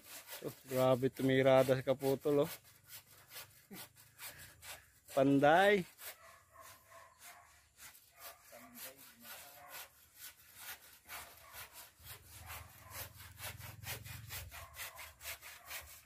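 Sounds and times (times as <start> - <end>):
handsaw cutting wood: 0.0 - 16.0.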